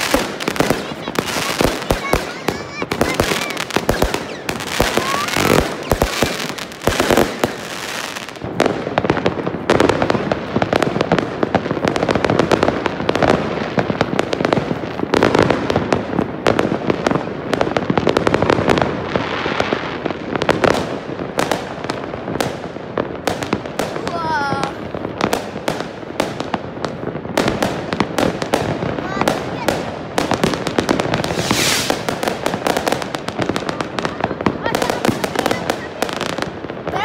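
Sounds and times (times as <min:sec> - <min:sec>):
fireworks and firecrackers bangs: 0:00.0 - 0:37.0.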